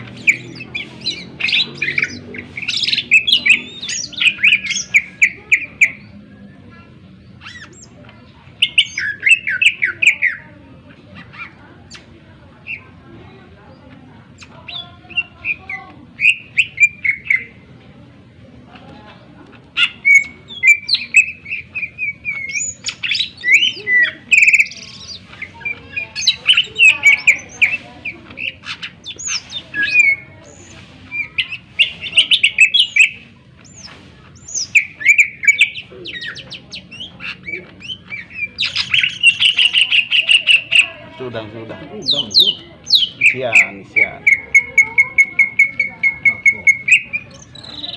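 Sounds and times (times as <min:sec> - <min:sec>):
bird singing: 0:00.0 - 0:13.0, 0:13.7 - 0:17.8, 0:19.8 - 0:47.9.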